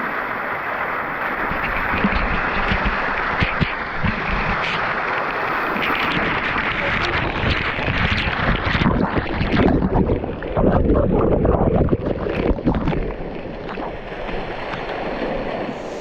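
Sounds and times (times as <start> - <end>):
moving water: 0.0 - 16.0
wind buffeting microphone: 1.4 - 16.0.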